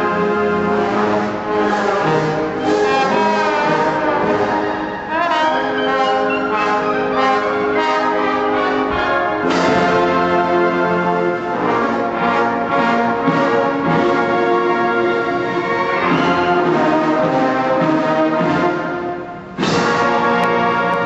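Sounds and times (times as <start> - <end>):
sustained brass chords: 0.0 - 21.0
trombones sliding between notes: 0.0 - 21.0.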